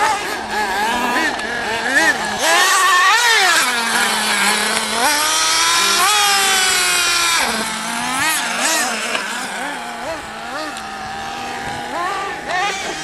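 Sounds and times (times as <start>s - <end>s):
nitro model car engines buzzing: 0.0s - 13.0s.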